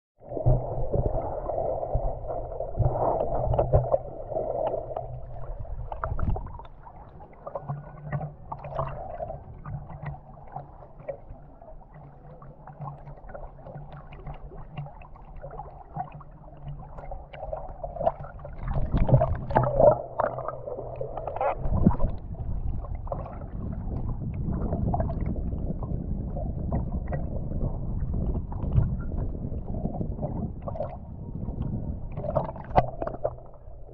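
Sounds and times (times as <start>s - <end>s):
muffled water sloshing and gurgling: 0.2s - 33.9s.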